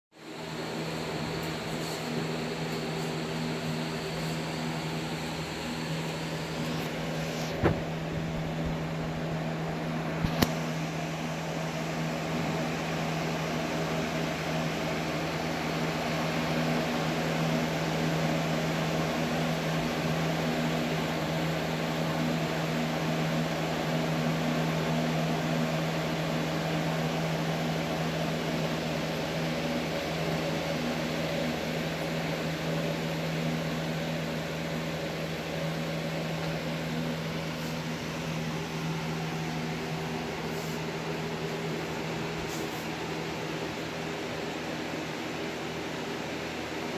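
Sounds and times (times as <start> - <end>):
aquarium pump humming: 0.2 - 46.9.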